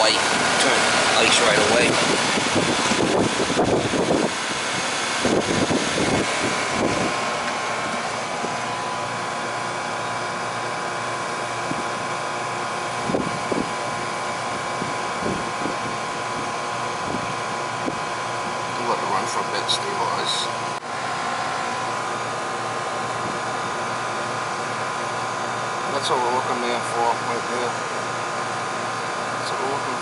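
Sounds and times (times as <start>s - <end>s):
air conditioning unit whirring: 0.0s - 30.0s.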